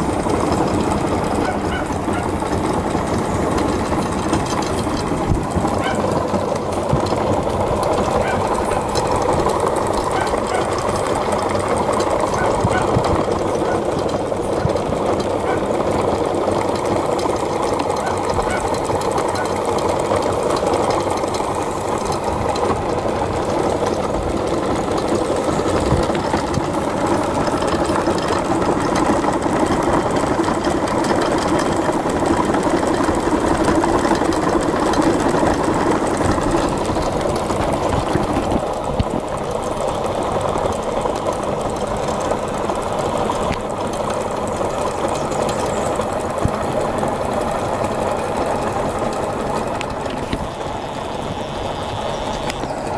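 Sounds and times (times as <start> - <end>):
engine rapid mechanical clatter: 0.0 - 52.9.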